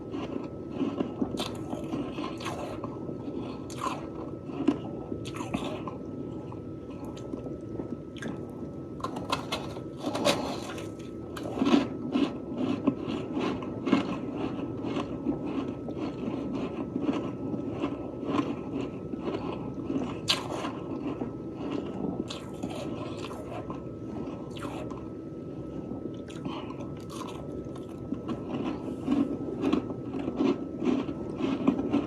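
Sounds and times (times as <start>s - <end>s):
chewing crunchy frost: 0.0s - 32.0s.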